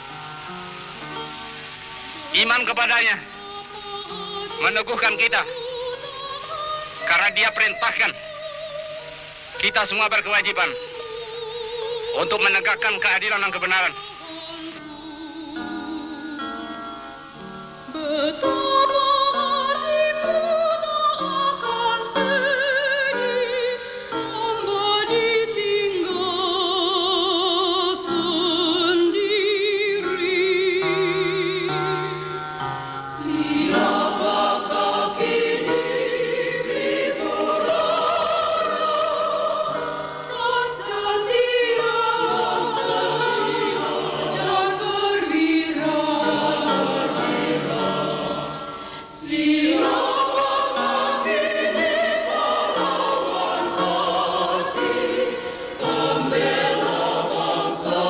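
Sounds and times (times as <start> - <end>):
choir singing: 2.1 - 58.0.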